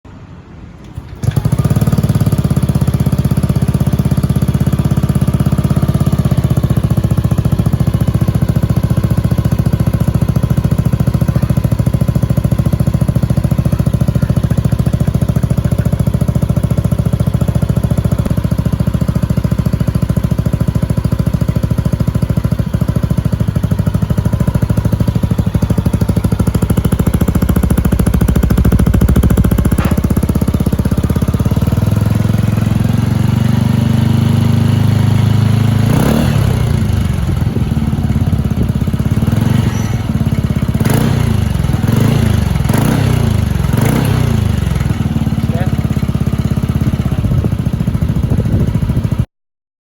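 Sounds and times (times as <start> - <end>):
motorcycle engine idling: 0.9 - 49.3.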